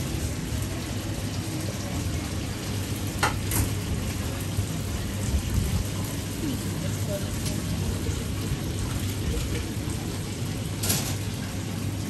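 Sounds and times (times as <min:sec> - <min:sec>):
deep-fat fryer sizzling: 0:00.0 - 0:12.0.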